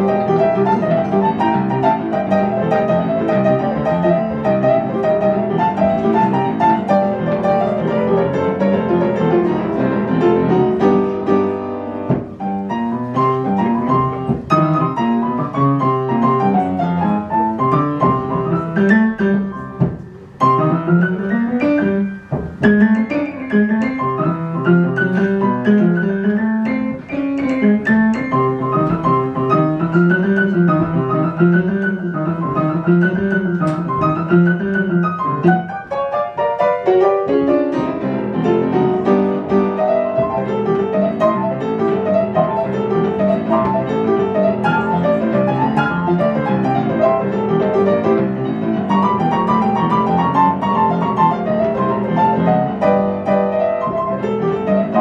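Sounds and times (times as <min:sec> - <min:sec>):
solo jazz piano: 0:00.0 - 0:55.0.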